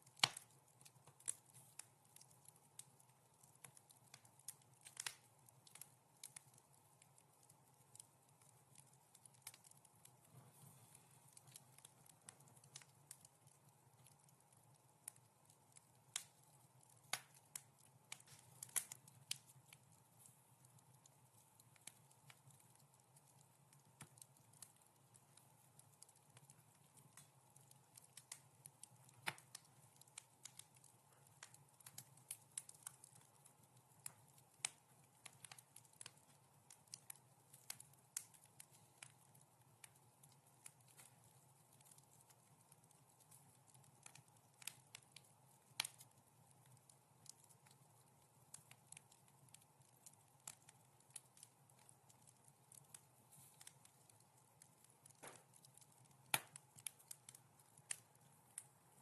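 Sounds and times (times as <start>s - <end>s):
faint hiss of burning: 0.0s - 59.0s
wood fire crackling: 0.0s - 59.0s.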